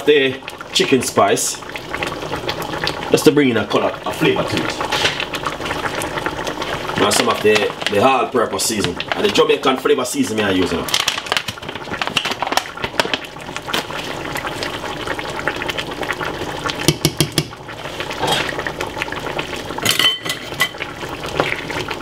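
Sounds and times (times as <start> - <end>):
gravy bubbling and popping: 0.0 - 22.0.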